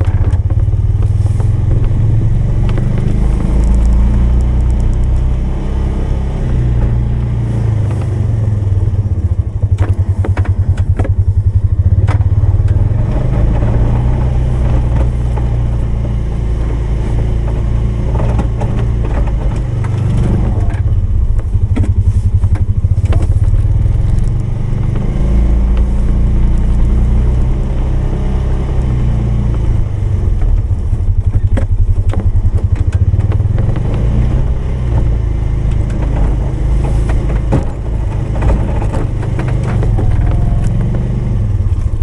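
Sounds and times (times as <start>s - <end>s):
sharp clicks and clatter: 0.0s - 42.0s
snowmobile engine running: 0.0s - 42.0s.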